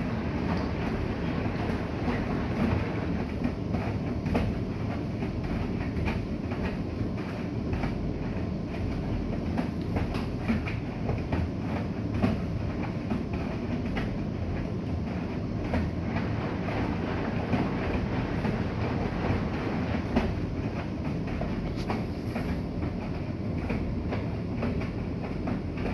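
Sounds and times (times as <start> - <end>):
washing machine rumbling: 0.0 - 25.9.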